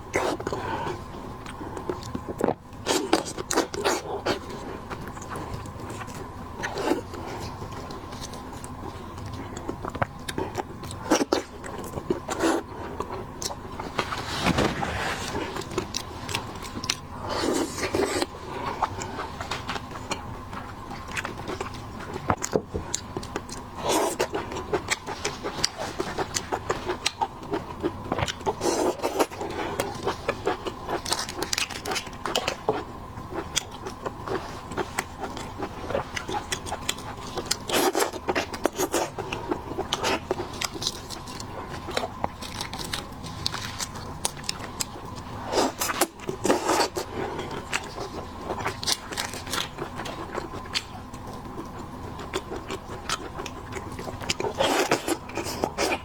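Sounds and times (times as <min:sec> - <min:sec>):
chewing and biting: 0:00.1 - 0:56.0.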